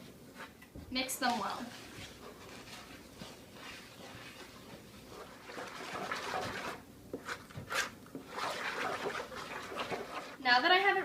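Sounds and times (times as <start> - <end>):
wet batter stirring: 0.0 - 10.8.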